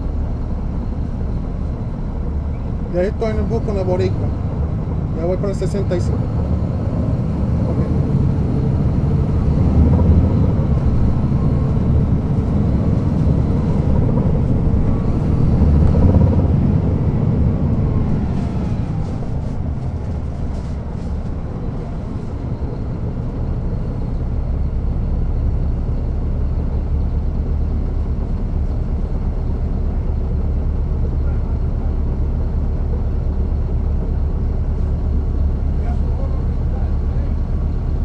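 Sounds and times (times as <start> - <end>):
bus diesel engine running: 0.0 - 38.0.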